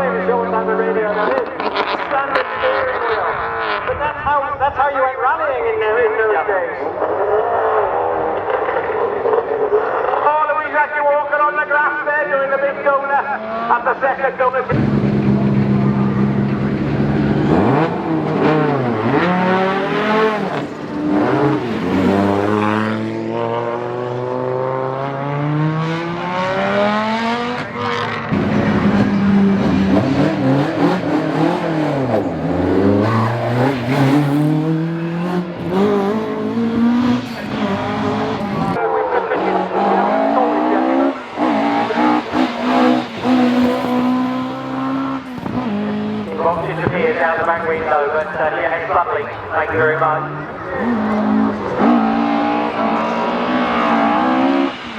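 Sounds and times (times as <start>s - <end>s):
rally car engine revving: 0.0s - 4.6s, 12.3s - 54.9s.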